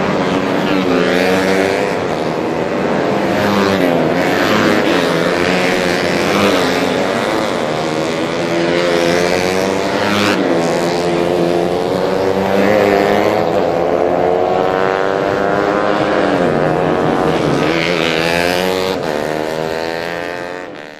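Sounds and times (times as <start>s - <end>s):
racing motorcycles revving high: 0.0s - 20.9s.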